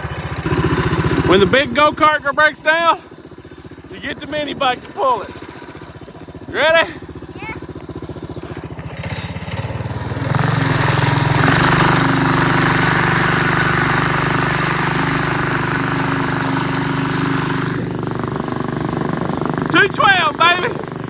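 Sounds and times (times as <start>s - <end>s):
small engine revving: 0.0s - 21.0s.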